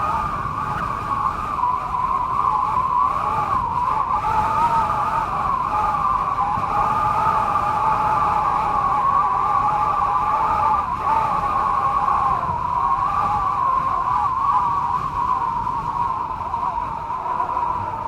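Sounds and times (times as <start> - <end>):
wind whistling: 0.0 - 18.0.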